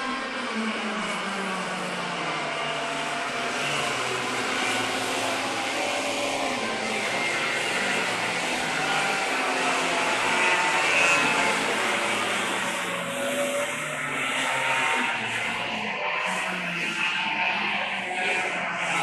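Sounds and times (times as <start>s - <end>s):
racing kart engines: 0.0s - 19.0s.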